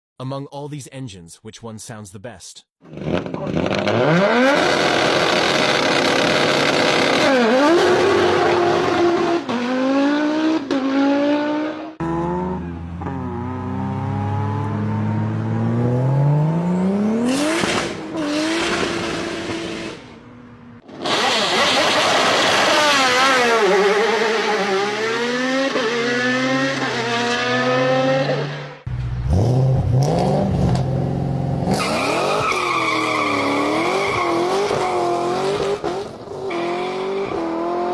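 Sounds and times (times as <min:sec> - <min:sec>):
car engines revving and accelerating: 0:02.8 - 0:37.9.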